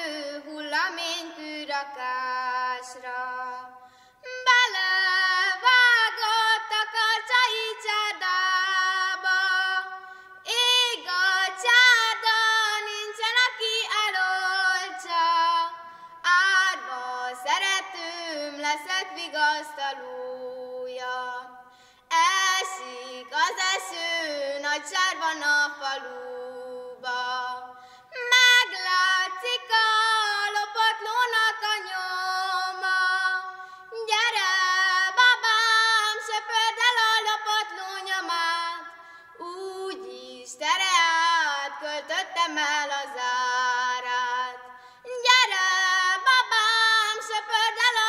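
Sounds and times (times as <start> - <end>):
girl singing: 0.0 - 48.0.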